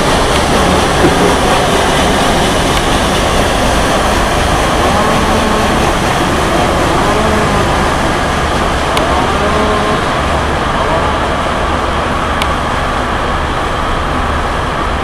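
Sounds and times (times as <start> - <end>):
paddle steamer rushing rumble: 0.0 - 15.0
paddle wheels churning water: 0.0 - 15.0.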